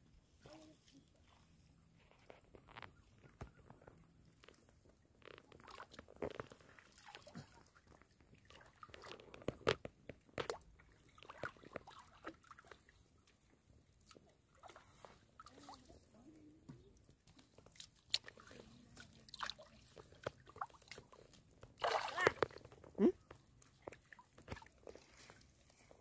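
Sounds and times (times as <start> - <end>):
muddy water splashing and sloshing: 4.5 - 26.0.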